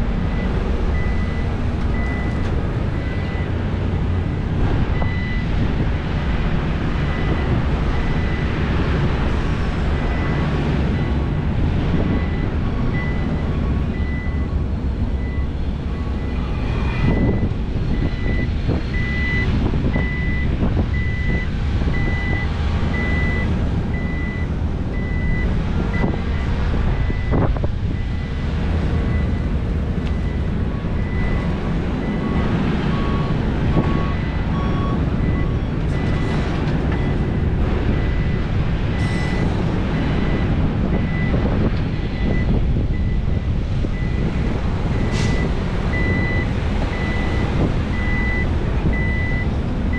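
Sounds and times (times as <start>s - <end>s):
heavy diesel engines running: 0.0s - 49.9s
reversing alarm beeping: 0.3s - 3.5s, 4.3s - 6.0s, 12.0s - 14.6s, 15.2s - 41.5s, 42.1s - 44.4s, 45.0s - 49.5s.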